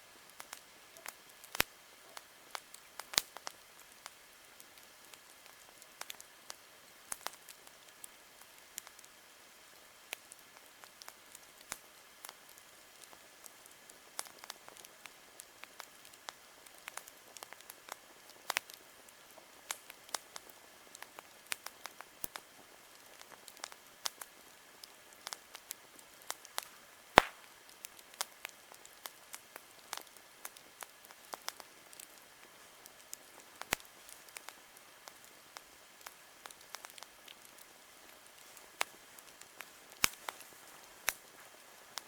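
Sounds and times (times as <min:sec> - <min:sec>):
campfire crackling and popping: 0:00.1 - 0:42.0.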